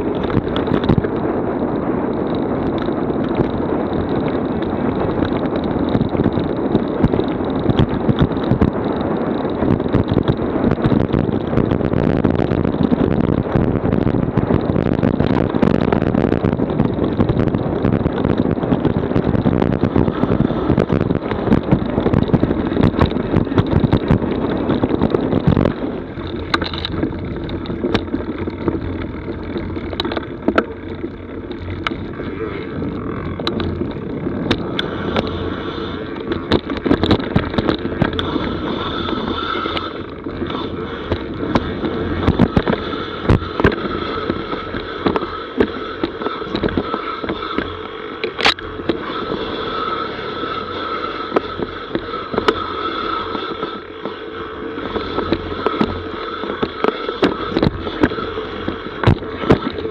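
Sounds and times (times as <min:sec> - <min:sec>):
bike clicks and rattles: 0:00.0 - 0:59.9
bike tyre noise on dirt: 0:00.0 - 0:59.9
wind buffeting microphone: 0:00.0 - 0:59.9.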